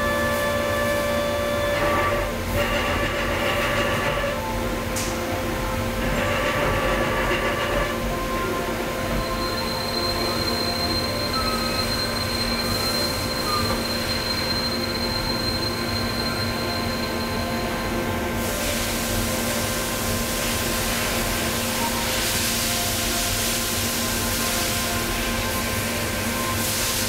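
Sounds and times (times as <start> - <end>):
machining center hum and whine: 0.0 - 27.0.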